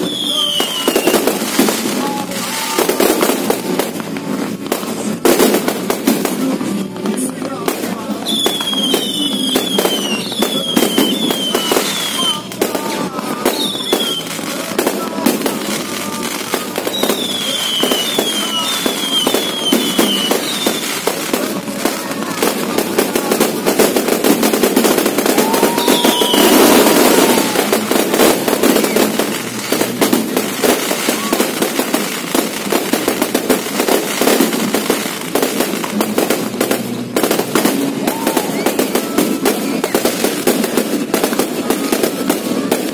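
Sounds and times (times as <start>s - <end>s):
fireworks crackling bangs: 0.0s - 42.9s
fireworks falling whistles: 0.0s - 42.9s.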